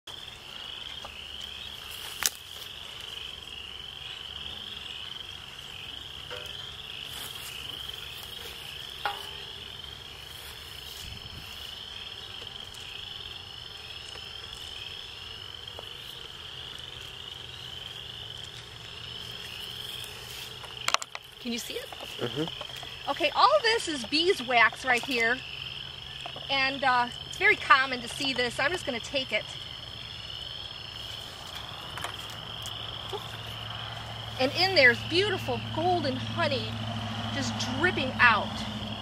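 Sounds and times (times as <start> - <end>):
frogs chirping chorus: 0.1 - 39.0.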